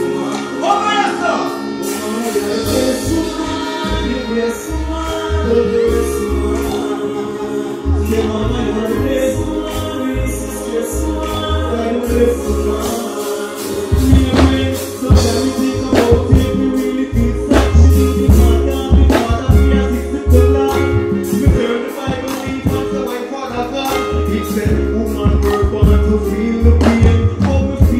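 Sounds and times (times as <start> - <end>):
backing track with heavy bass: 0.0 - 27.9
person singing into microphone: 0.0 - 27.9.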